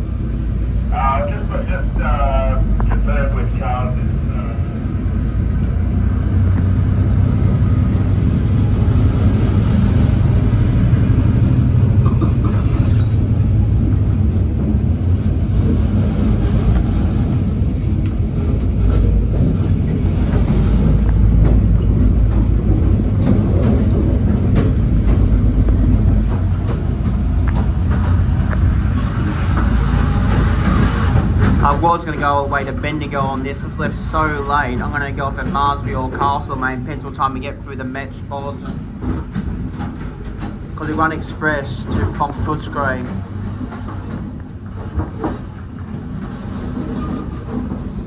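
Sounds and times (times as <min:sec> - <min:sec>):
train rumble: 0:00.0 - 0:48.0
clicks of train: 0:00.1 - 0:48.0.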